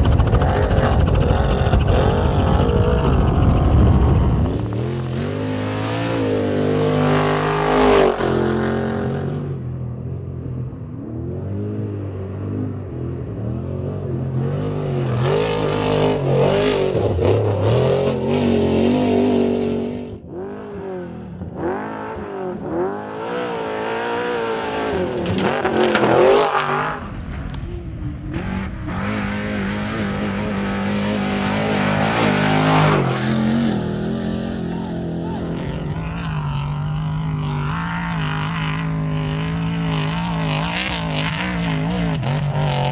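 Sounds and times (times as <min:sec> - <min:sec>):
race truck engines revving: 0:00.0 - 0:42.9.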